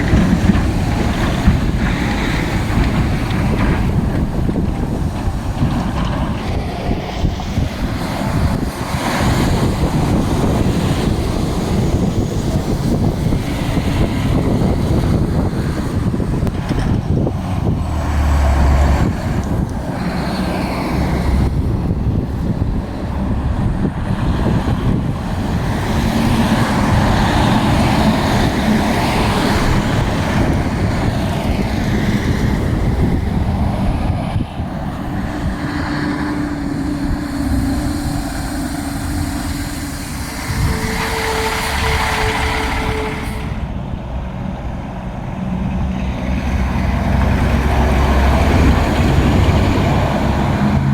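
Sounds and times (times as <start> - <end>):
diesel trucks driving: 0.0 - 50.9.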